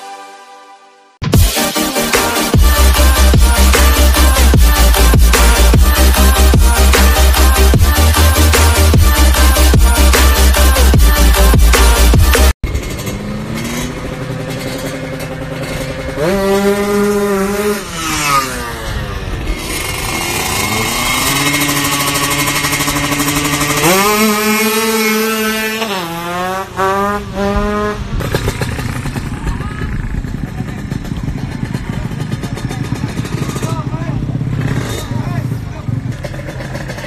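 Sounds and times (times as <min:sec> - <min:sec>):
motorcycle engines revving: 0:02.0 - 0:37.0.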